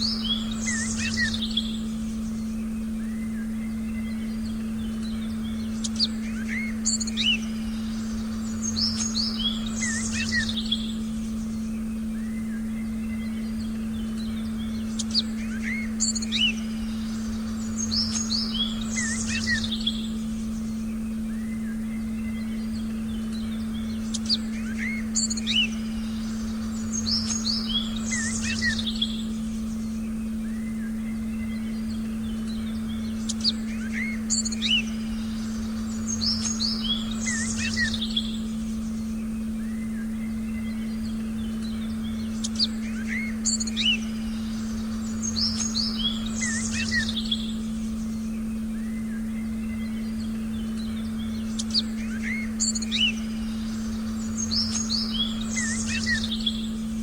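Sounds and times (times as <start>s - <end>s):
forest birds chirping: 0.0s - 57.0s
steady low meditation tone: 0.0s - 57.0s.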